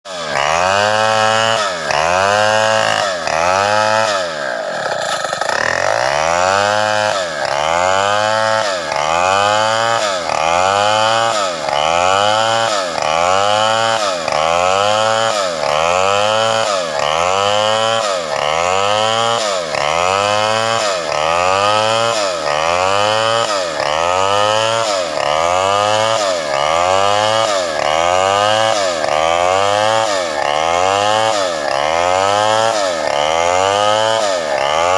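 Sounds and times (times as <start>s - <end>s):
chainsaw ripping a log: 0.0s - 34.9s.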